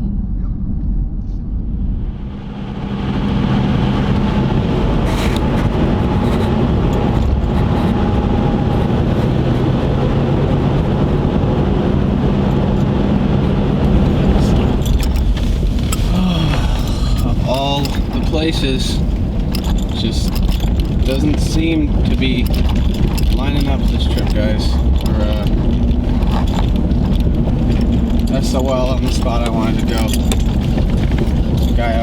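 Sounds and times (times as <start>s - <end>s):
jeep engine drone: 0.0s - 32.0s
road noise: 1.7s - 32.0s.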